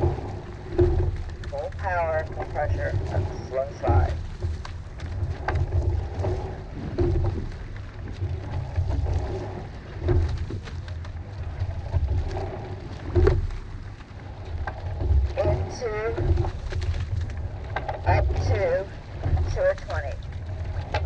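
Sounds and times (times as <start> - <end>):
oars clunking in oarlocks: 0.0 - 21.0
water rushing along hull: 0.0 - 21.0
wind buffeting microphone: 0.0 - 21.0.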